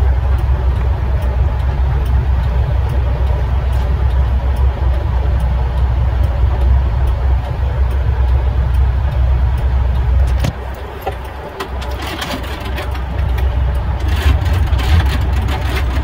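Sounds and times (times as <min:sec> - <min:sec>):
faint ticking: 0:00.0 - 0:16.0
vehicle engine and road rumble: 0:00.0 - 0:16.0.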